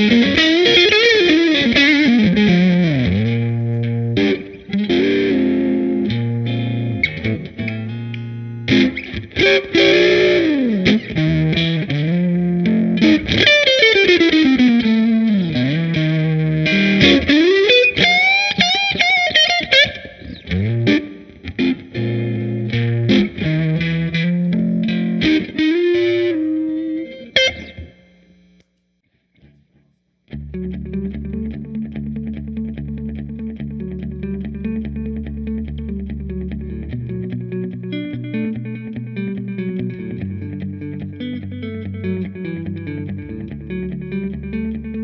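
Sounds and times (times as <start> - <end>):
distorted electric guitar: 0.0 - 28.7, 30.3 - 45.0.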